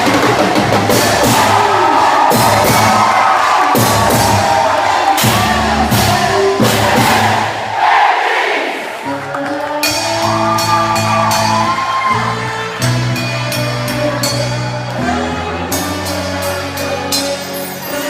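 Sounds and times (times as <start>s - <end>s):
bass notes: 0.0s - 7.7s, 9.0s - 18.0s
live band music: 0.0s - 8.1s, 8.8s - 18.0s
crowd voices: 0.0s - 18.0s.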